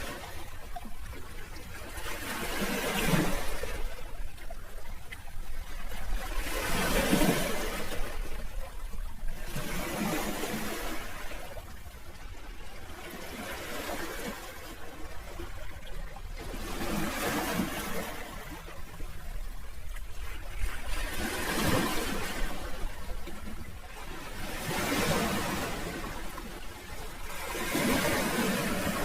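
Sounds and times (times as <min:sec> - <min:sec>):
sea waves washing onto shore: 0:00.0 - 0:29.0.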